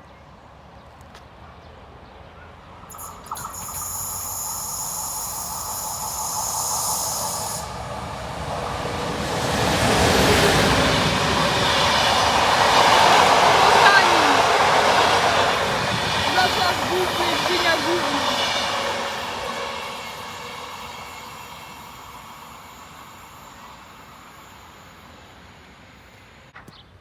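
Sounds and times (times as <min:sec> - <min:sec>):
train rumble: 0:02.7 - 0:26.6
high hiss: 0:02.9 - 0:26.5.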